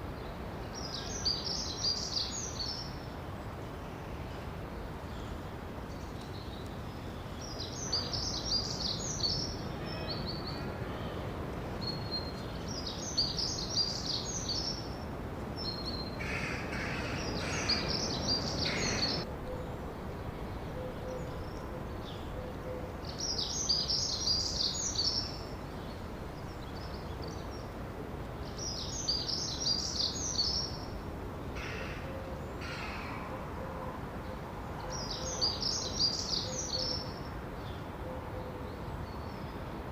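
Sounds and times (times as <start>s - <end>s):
outdoor noise haze: 0.0s - 39.9s
songbird singing: 0.0s - 39.9s.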